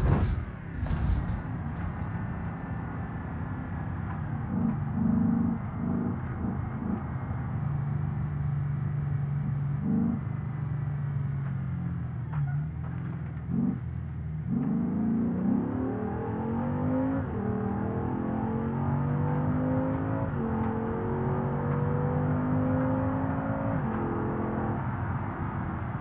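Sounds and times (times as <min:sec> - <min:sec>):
car engine heard from inside cabin: 0:00.4 - 0:26.0.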